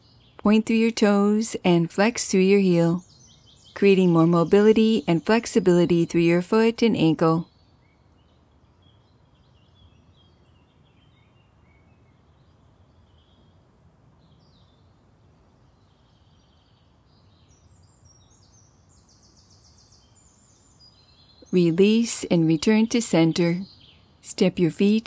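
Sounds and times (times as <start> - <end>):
low steady hiss: 0.0 - 25.0
small birds chirping: 0.0 - 25.0.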